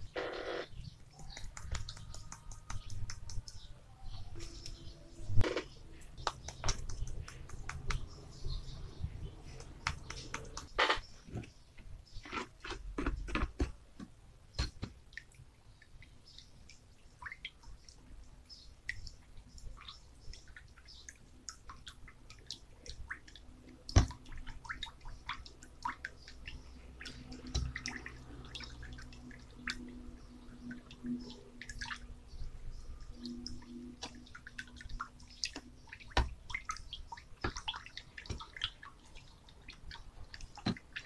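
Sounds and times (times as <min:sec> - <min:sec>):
liquid splashing: 0:01.0 - 0:10.8, 0:14.6 - 0:41.0.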